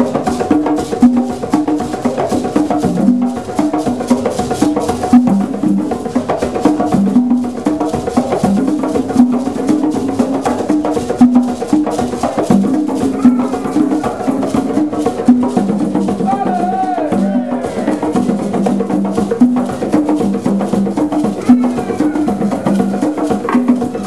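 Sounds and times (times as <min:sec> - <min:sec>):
hand drums in fast rhythm: 0:00.0 - 0:24.0.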